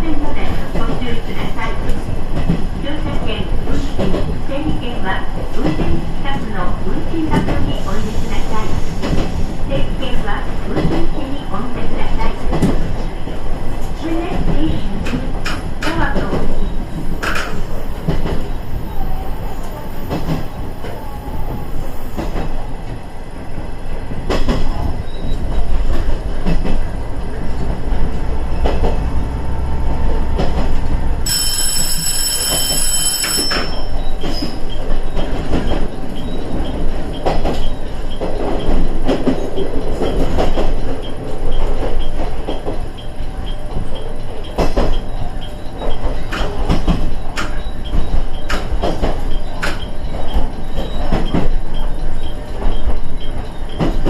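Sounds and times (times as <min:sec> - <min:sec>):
diesel railcar engine and wheel rumble: 0:00.0 - 0:54.0.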